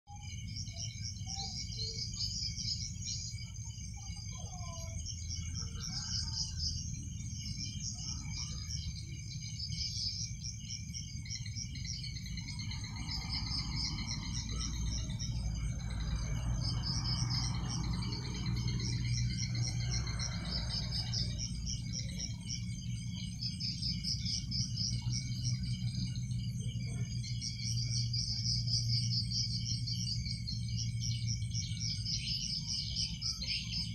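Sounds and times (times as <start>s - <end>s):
crickets trilling: 0.1s - 33.9s
low steady rumble: 0.1s - 33.9s
rapid pulsed chirping: 0.1s - 33.9s.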